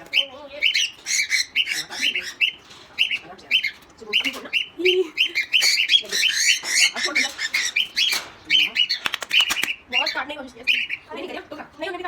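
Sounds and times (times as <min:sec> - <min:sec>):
parrots squawking: 0:00.0 - 0:11.5.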